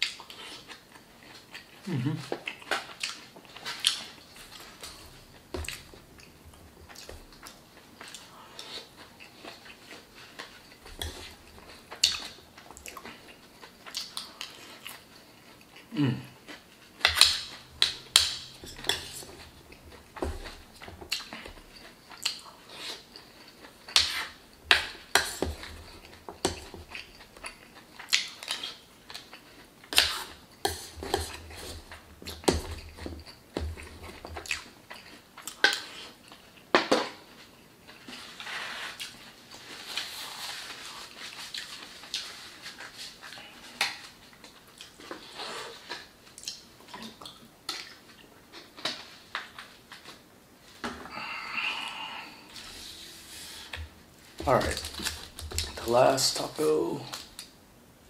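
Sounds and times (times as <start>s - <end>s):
chewing and mouth sounds: 0.0s - 36.7s, 39.0s - 50.1s.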